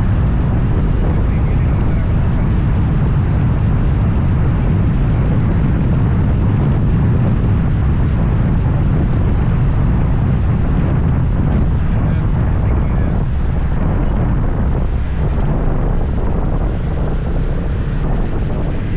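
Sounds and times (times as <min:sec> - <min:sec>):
scooter engine and road rumble: 0:00.0 - 0:18.9
wind on microphone: 0:00.0 - 0:18.9.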